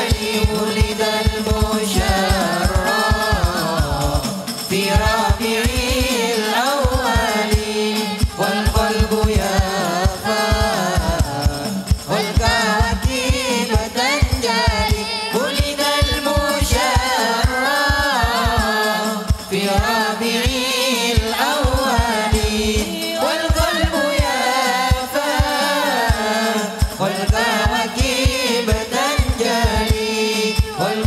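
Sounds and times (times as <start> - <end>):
frame drum beats: 0.0 - 31.0
men singing: 0.0 - 31.0.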